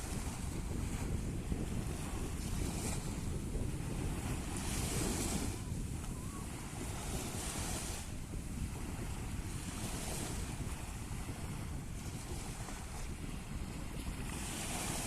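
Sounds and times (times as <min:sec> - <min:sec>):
sea waves washing in: 0:00.0 - 0:15.0
wind buffeting microphone: 0:00.0 - 0:15.0.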